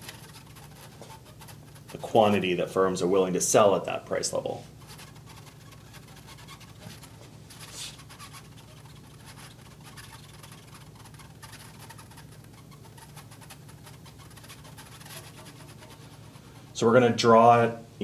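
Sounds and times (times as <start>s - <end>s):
marker scratching and squeaking: 0.0s - 2.9s, 4.4s - 16.9s.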